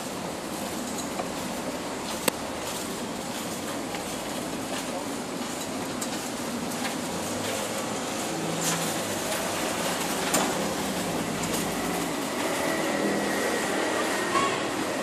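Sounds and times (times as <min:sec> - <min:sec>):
passing car engine and tyres: 0:00.0 - 0:15.0
steady traffic din: 0:00.0 - 0:15.0.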